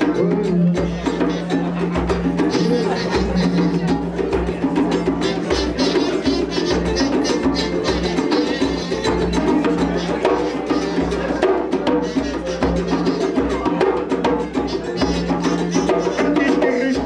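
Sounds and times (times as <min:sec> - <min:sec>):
busy percussion strokes: 0:00.0 - 0:17.0
guitar: 0:00.0 - 0:17.0.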